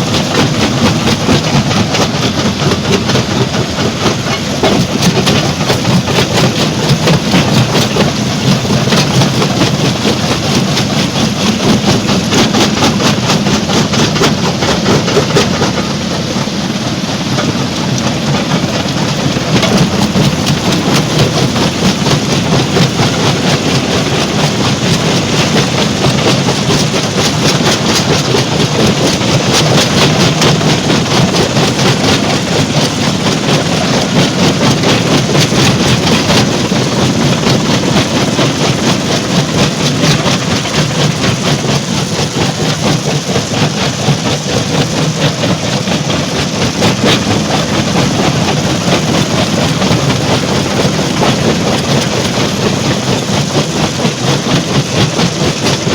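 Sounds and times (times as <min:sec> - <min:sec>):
heavy machine drone: 0:00.0 - 0:55.9.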